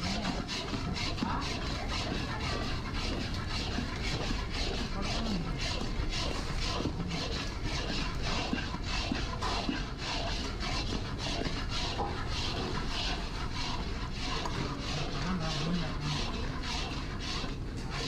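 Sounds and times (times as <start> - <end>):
metal ladle scraping pan: 0.0 - 18.0.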